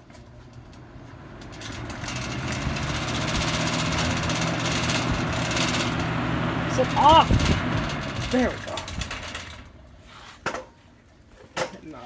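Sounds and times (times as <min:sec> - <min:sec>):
box fan motor hum: 0:00.0 - 0:10.1.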